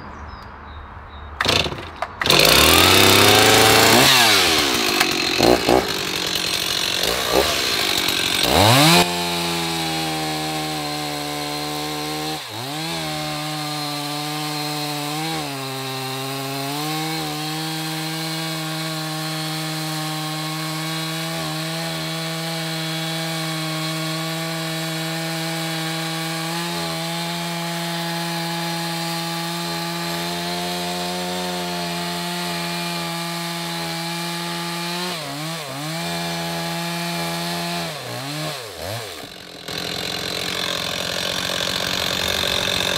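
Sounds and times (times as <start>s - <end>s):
chainsaw cutting log: 1.4s - 42.9s.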